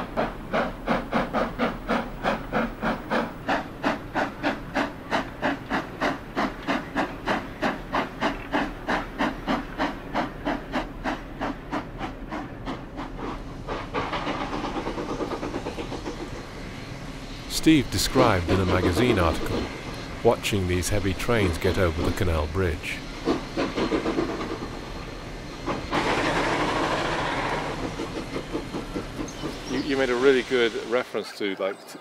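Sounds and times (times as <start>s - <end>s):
steam locomotive exhaust beats: 0.0s - 31.1s
steam hissing: 0.0s - 31.3s.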